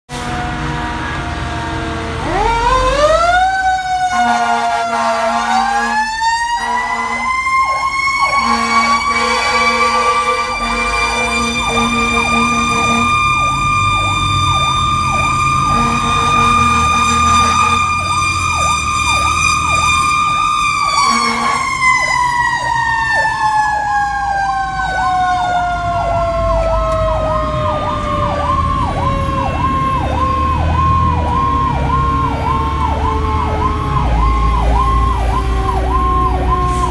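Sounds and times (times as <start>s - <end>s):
fire engine horn blasts: 0.1s - 22.6s, 27.5s - 36.9s
siren wailing: 0.2s - 36.9s
electronic siren warbling: 0.3s - 36.9s.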